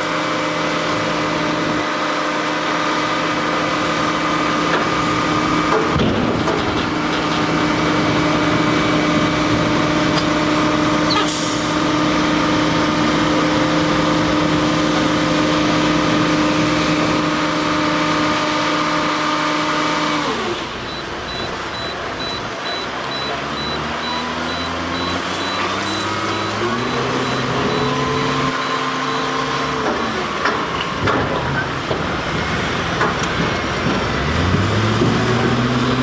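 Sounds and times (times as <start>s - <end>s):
diesel truck engine revving: 0.0s - 36.0s.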